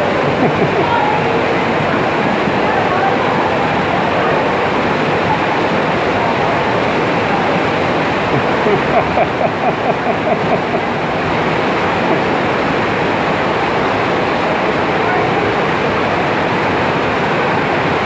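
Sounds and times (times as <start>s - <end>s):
water rushing through tunnel: 0.0s - 18.0s.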